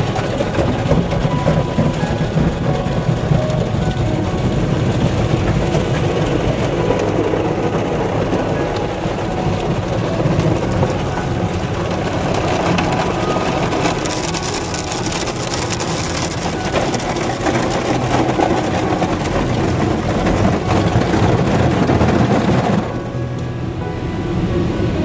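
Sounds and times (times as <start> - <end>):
car wash spraying and scrubbing: 0.0 - 25.0.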